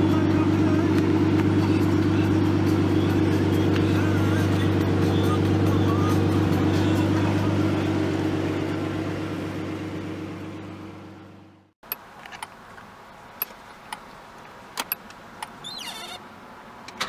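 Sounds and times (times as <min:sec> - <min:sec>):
turbocharged car engine running: 0:00.0 - 0:14.0.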